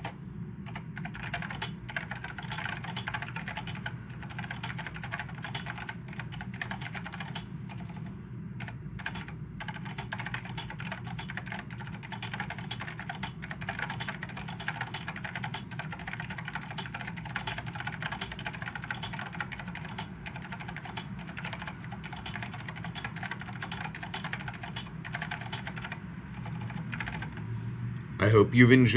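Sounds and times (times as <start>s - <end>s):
fast typing on keyboard: 0.0s - 27.5s.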